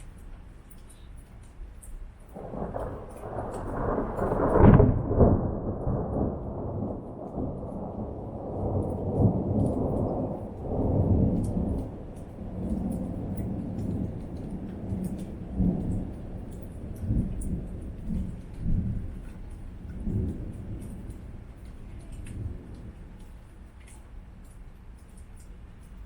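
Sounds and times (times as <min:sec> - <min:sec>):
thunder rolling: 0:02.4 - 0:23.4.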